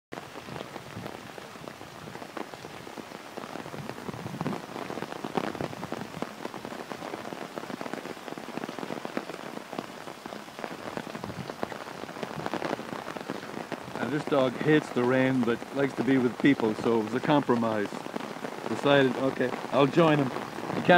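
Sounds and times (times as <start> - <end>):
heavy rain on an umbrella: 0.1 - 20.9.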